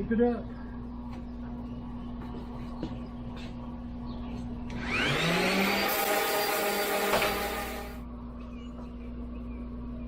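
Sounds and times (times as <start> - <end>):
steady low hum: 0.0 - 5.7, 7.6 - 10.0.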